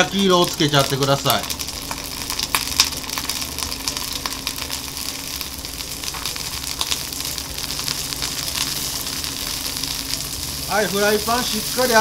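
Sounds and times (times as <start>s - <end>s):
oil popping and crackling: 0.0s - 12.0s
oysters sizzling in hot oil: 0.0s - 12.0s.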